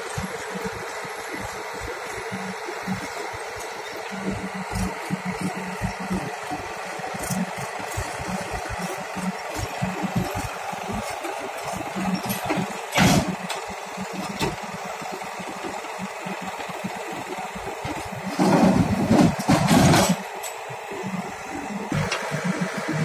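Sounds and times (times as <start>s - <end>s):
heavy machine engine chugging: 0.0s - 23.0s.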